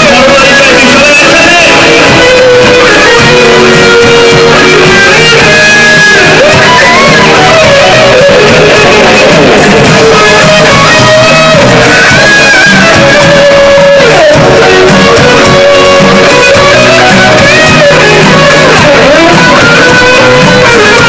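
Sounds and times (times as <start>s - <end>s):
live rock band with electric guitars: 0.0s - 21.0s.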